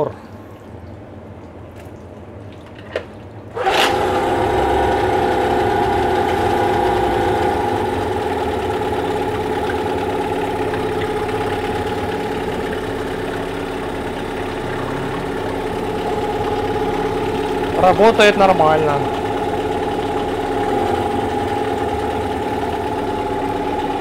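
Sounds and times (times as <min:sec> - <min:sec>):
outboard motor starting and idling: 0:02.8 - 0:24.0.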